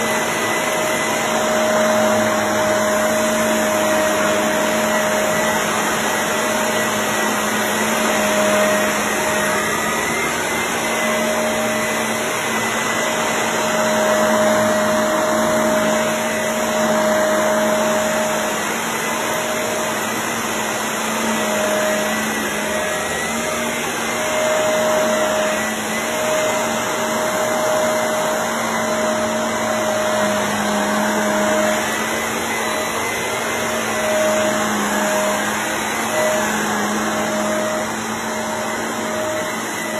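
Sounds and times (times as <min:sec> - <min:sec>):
vacuum cleaner motor drone: 0:00.0 - 0:39.9.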